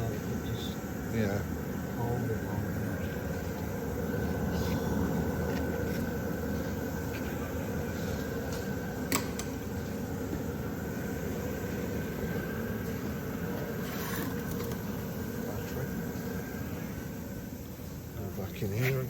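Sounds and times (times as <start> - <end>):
heater fan whirring: 0.0 - 19.0.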